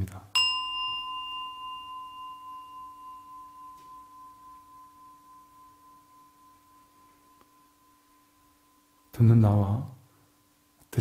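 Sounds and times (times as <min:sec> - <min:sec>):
bowl bell ringing: 0:00.3 - 0:09.4.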